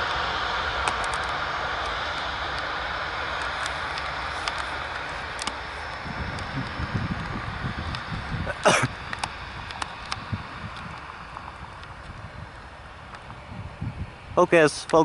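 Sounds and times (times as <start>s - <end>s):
jet aircraft engine: 0.0s - 15.0s
wind rumble on microphone: 0.0s - 15.0s.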